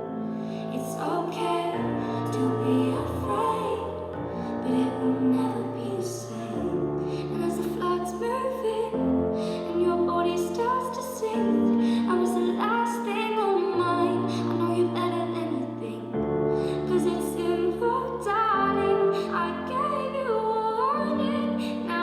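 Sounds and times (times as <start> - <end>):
woman singing slow melody: 0.5 - 22.0.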